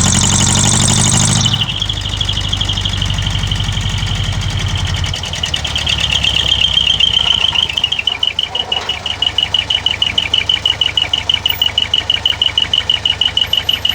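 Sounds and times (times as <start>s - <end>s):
diesel truck engine idling: 0.0s - 13.9s
rapid beeping: 0.0s - 13.9s.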